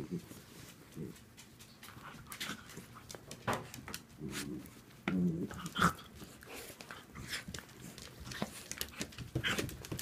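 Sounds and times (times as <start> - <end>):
dogs scuffling: 0.0 - 10.0.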